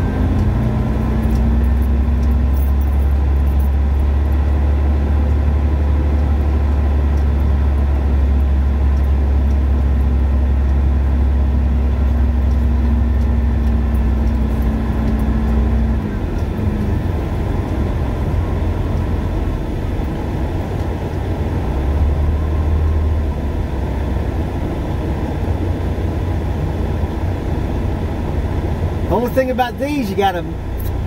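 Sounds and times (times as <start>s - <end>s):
diesel truck engine droning: 0.0s - 31.0s.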